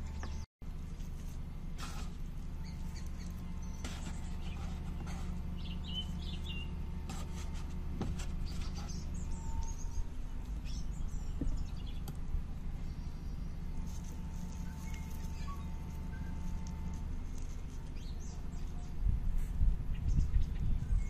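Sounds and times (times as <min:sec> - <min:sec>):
small birds chirping: 0:00.0 - 0:01.2, 0:01.9 - 0:21.0
low background rumble: 0:00.0 - 0:21.0.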